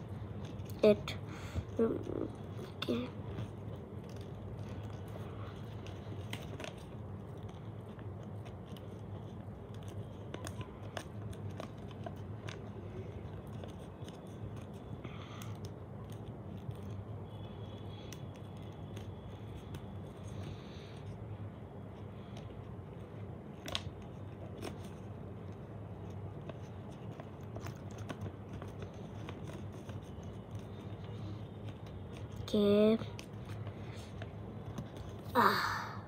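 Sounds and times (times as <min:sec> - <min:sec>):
paper crinkling and rustling: 0:01.7 - 0:21.2, 0:21.9 - 0:35.3.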